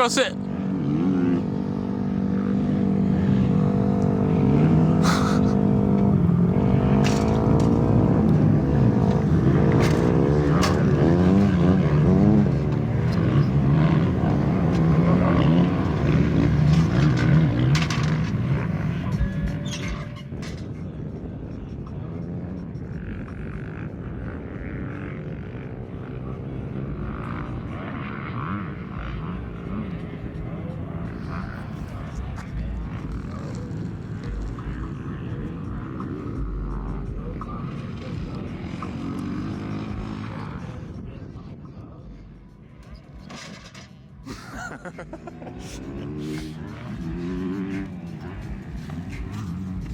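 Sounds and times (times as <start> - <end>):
dirt bike engine revving: 0.0 - 20.4, 23.0 - 41.1, 42.6 - 49.9.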